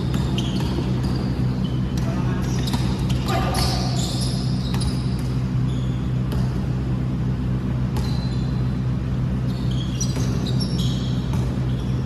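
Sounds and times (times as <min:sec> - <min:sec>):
indoor hall hum: 0:00.0 - 0:12.0
sneakers squeaking: 0:00.0 - 0:12.0.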